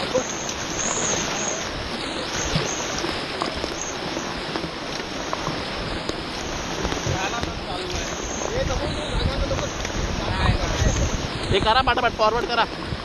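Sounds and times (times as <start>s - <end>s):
paddle splashes and knocks: 0.0s - 13.0s
river water rushing: 0.0s - 13.0s.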